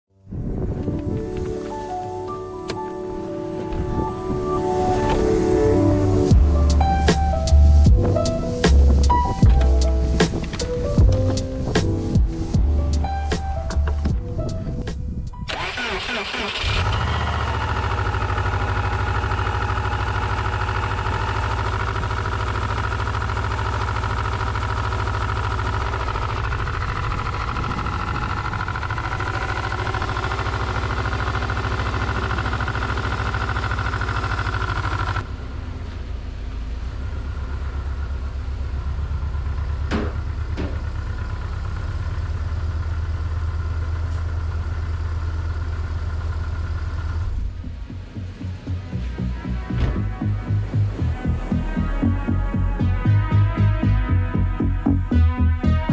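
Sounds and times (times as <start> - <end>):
car engine idling with knock: 6.3 - 15.4, 16.6 - 55.2.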